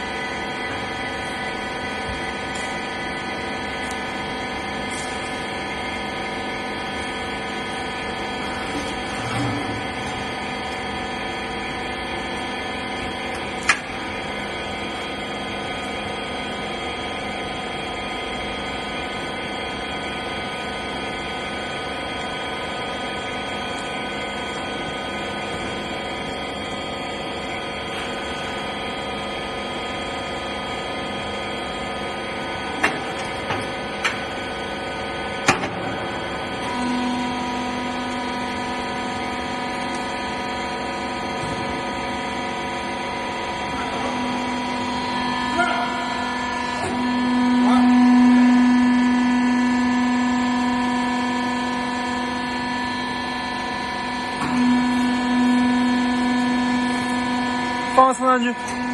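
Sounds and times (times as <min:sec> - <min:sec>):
baler motor humming: 0:00.0 - 0:58.9.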